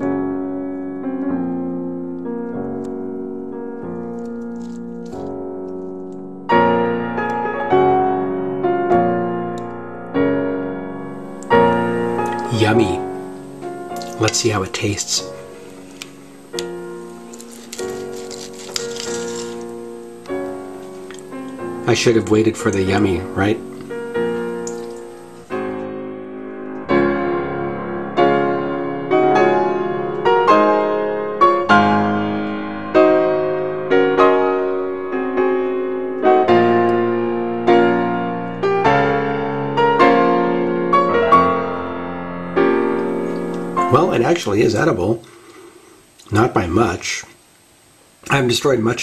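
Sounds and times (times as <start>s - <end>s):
slow piano chords: 0.0s - 45.2s.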